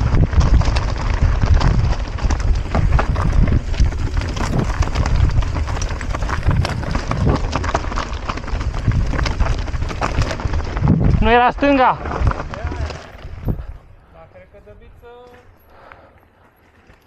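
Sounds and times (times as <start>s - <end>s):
bike rattling over rocks: 0.0s - 13.8s
wind buffeting microphone: 0.0s - 15.2s.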